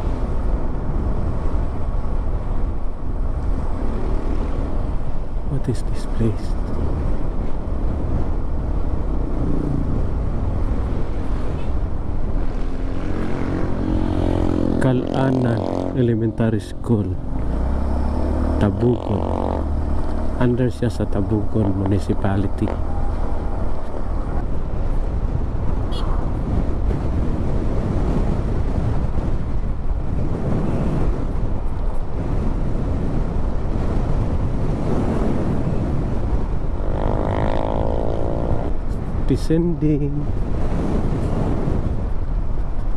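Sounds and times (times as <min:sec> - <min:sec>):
vehicle engine and road noise: 0:00.0 - 0:42.9
wind rush on microphone: 0:00.0 - 0:42.9.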